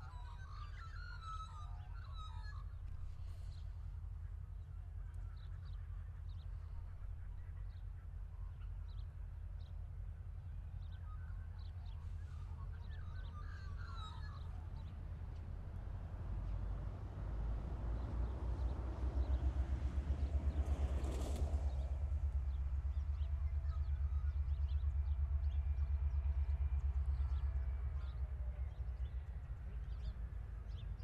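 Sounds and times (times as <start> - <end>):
steady low rumble: 2.6 - 31.0.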